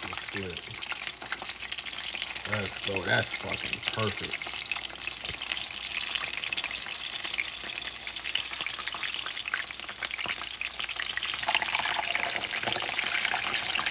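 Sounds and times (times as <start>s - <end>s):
food sizzling in a pan: 0.0s - 13.9s.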